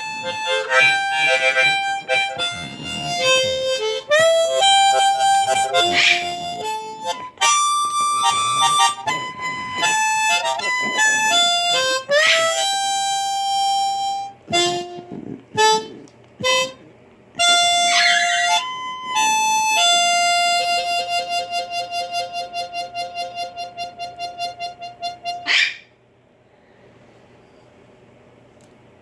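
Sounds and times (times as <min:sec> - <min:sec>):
blues harmonica: 0:00.0 - 0:25.7.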